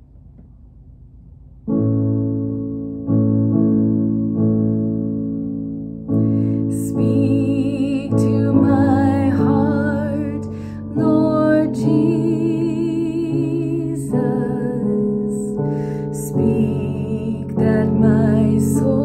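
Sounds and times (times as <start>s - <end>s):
electric keyboard piano chords: 1.6s - 19.0s.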